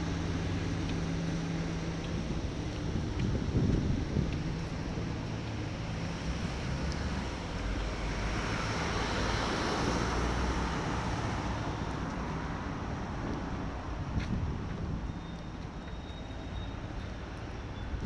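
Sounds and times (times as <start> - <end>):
train rumbling and rushing: 0.0 - 18.0.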